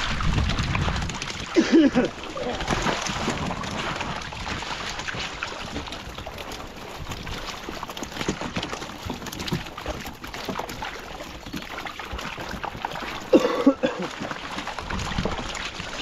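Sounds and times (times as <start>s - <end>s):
fish thrashing in a net: 0.0s - 16.0s
water splashing and sloshing: 0.0s - 16.0s.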